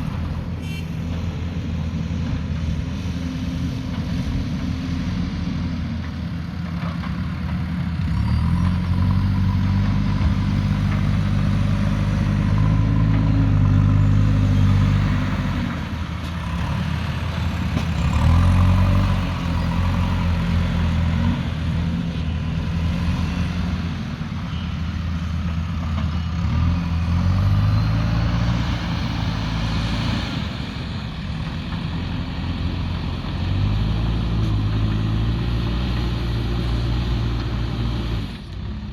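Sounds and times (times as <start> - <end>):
diesel digger engine revving: 0.0 - 38.9.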